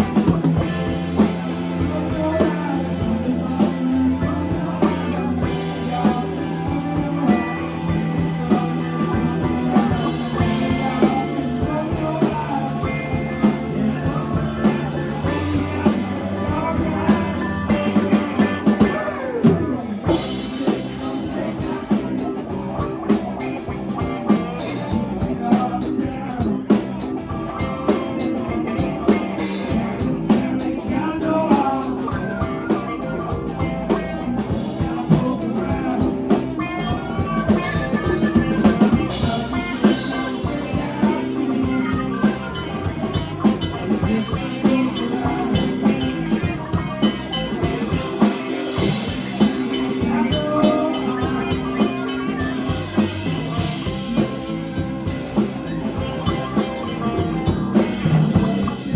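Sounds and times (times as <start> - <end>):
bass guitar: 0.0 - 58.9
drum kit beat: 0.0 - 58.9
electric guitar: 0.0 - 58.9.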